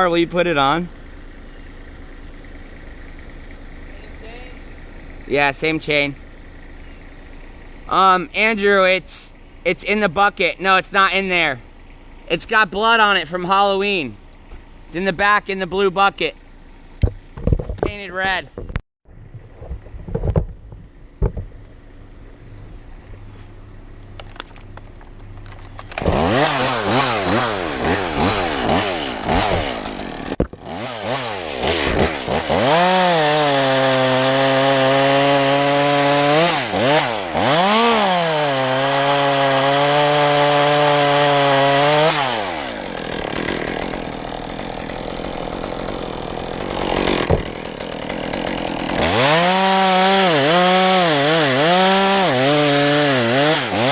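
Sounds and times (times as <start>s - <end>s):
chainsaw revving and idling: 0.0s - 17.1s, 24.9s - 53.9s.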